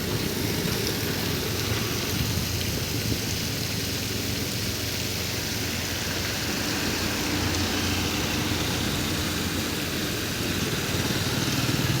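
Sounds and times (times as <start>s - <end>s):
water spraying onto road: 0.0s - 12.0s.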